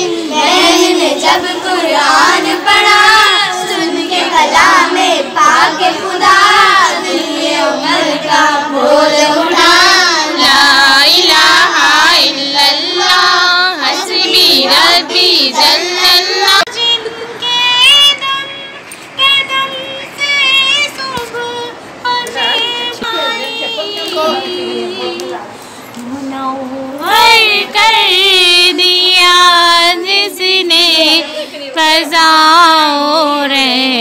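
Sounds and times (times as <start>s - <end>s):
girls singing together: 0.0s - 25.4s, 26.0s - 34.0s.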